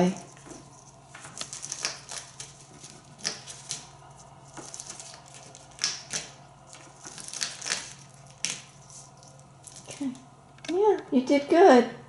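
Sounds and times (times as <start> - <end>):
parrot beak crunching pumpkin: 0.0 - 10.3.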